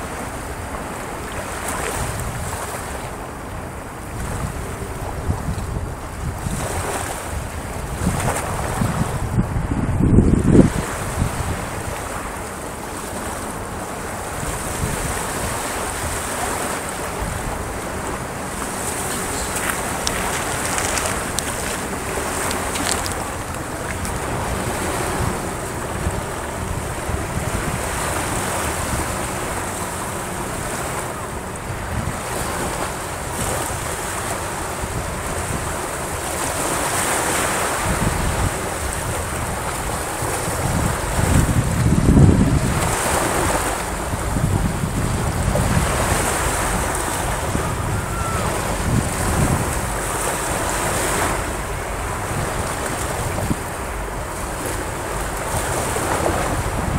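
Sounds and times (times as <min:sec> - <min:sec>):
surf breaking on sandy beach: 0:00.0 - 0:56.9
wind rumbling on microphone: 0:00.0 - 0:56.9.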